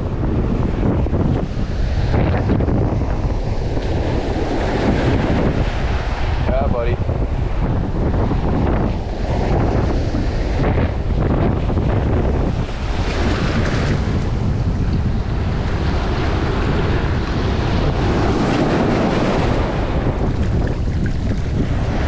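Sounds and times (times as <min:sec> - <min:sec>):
shallow surf washing: 0:00.0 - 0:22.0
wind buffeting microphone: 0:00.0 - 0:22.0.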